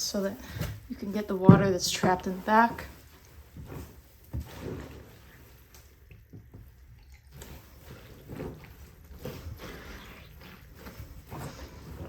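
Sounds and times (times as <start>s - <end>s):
wet laundry squelching: 0.0s - 12.0s.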